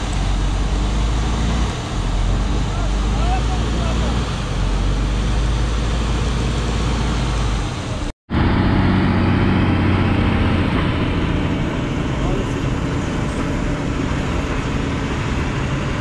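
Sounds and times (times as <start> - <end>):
engine and pump humming: 0.0 - 16.0
fire engine driving: 0.0 - 16.0.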